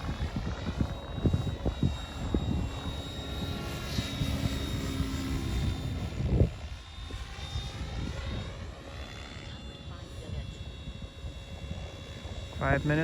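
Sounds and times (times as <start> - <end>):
rc helicopter rotor whine: 0.0 - 13.0.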